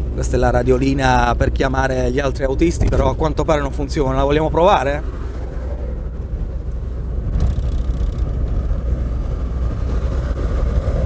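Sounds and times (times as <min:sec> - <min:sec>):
truck engine and tyres droning: 0:00.0 - 0:11.0.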